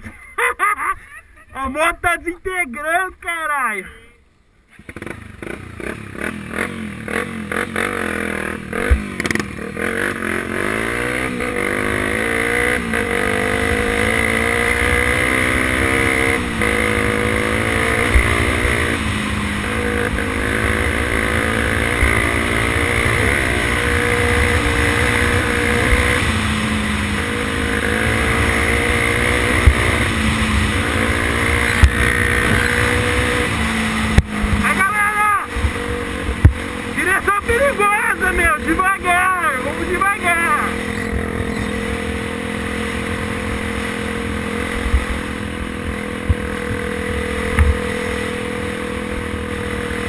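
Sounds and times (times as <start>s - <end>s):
motorcycle engine accelerating: 4.7s - 50.0s.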